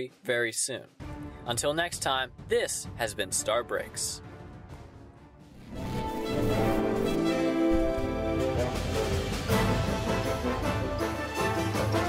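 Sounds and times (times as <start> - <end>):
theme music with held notes: 0.0 - 12.0.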